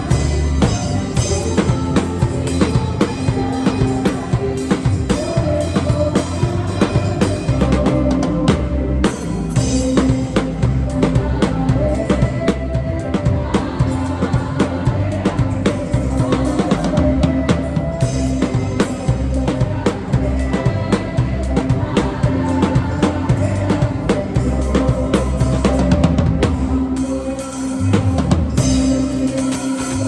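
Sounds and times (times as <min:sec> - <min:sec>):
drum kit beat: 0:00.0 - 0:30.0
worship music: 0:00.0 - 0:30.0.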